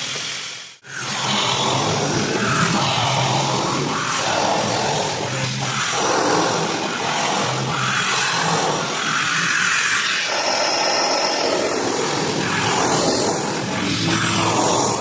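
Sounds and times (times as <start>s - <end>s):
floor polisher grinding on stone: 0.8s - 15.0s.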